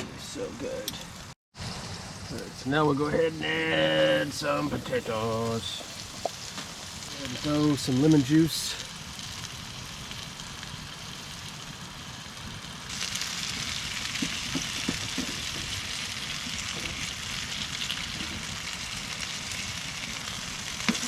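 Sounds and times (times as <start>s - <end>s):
food sizzling in a frying pan: 0.2s - 21.0s.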